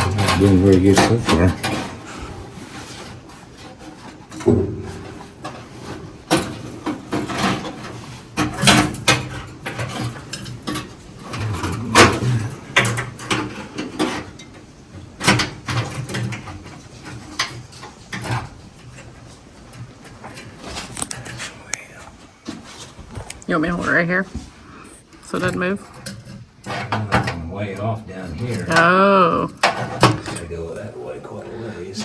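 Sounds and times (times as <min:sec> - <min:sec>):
hand work on metal car parts: 0:00.0 - 0:21.8, 0:25.3 - 0:30.4.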